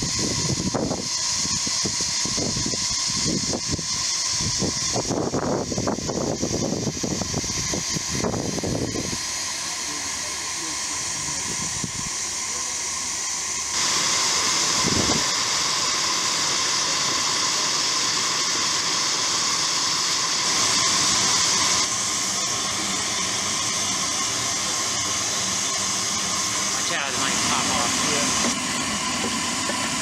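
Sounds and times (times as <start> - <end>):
steam locomotive hissing: 0.0 - 30.0.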